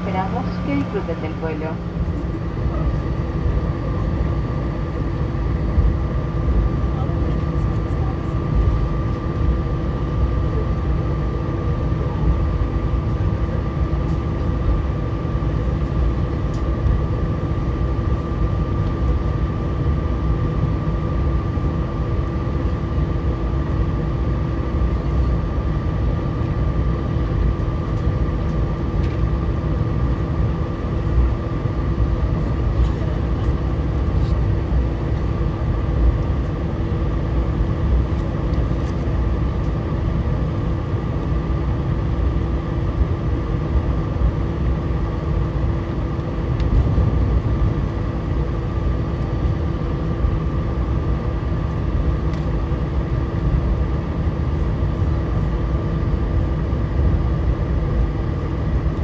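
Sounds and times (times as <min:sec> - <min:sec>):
jet engines idling: 0:00.0 - 0:59.0.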